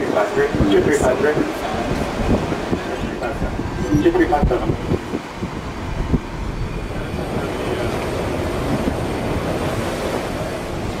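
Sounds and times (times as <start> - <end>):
ship rumble: 0.0 - 11.0
water rushing: 0.0 - 11.0
wind: 0.0 - 11.0.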